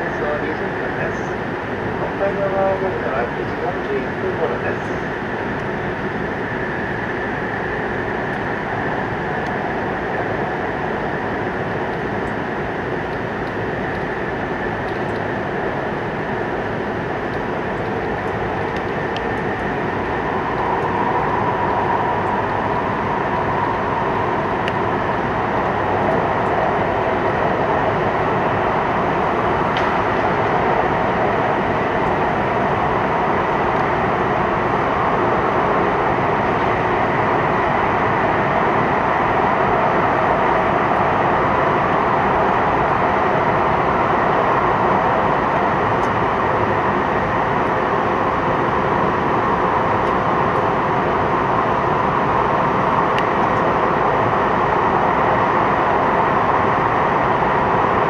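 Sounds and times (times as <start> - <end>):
train rushing through tunnel: 0.0 - 58.0.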